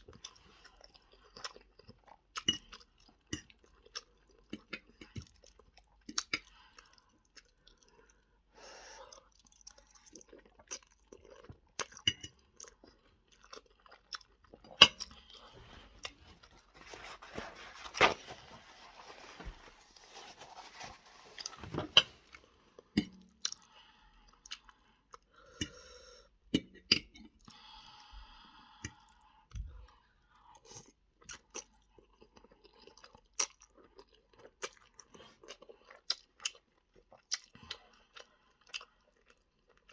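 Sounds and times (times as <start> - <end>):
person chewing food: 0.0 - 18.2, 19.0 - 39.9.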